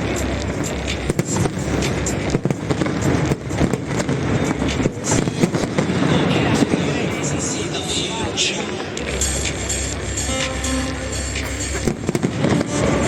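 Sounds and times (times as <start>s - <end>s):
fireworks bangs and crackles: 0.0s - 10.6s, 11.3s - 13.0s.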